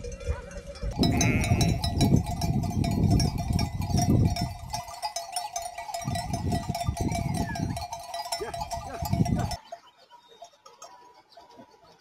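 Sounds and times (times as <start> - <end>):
sheep bells clinking: 0.0 - 12.0.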